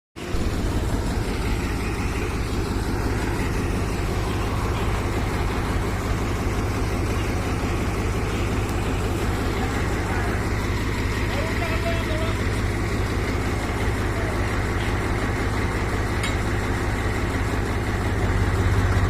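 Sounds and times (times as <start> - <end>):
tractor engine running: 0.2 - 19.0.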